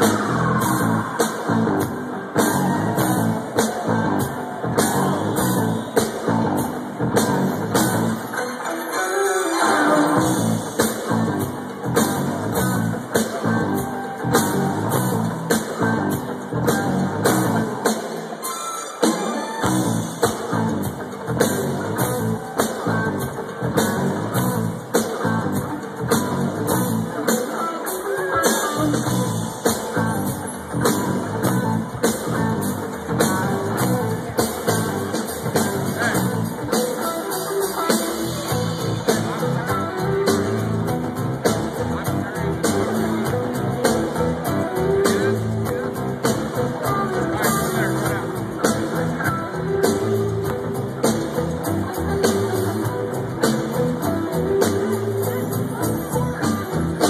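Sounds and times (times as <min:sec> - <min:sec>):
live electronic rock band: 0:00.0 - 0:57.0.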